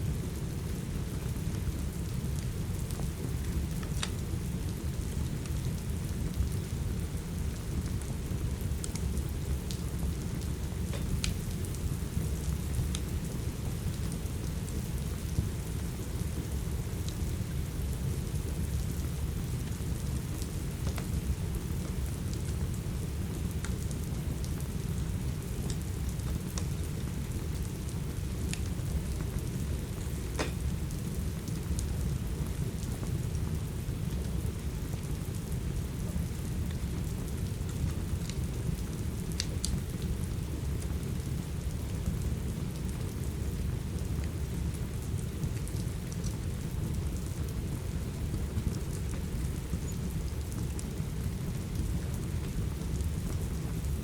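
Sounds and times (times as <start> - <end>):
steady rain: 0.0 - 54.0
wood fire crackling: 0.3 - 54.0.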